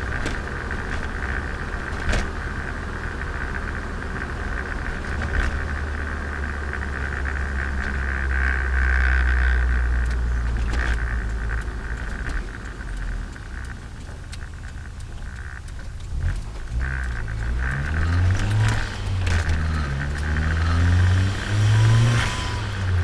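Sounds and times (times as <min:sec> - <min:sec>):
car engine and exhaust drone: 0:00.0 - 0:23.0
sharp ticks: 0:00.0 - 0:23.0.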